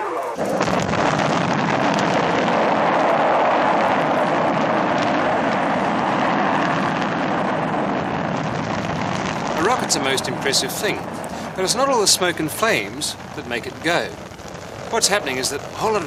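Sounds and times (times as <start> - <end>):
rocket engines roaring: 0.0 - 16.0.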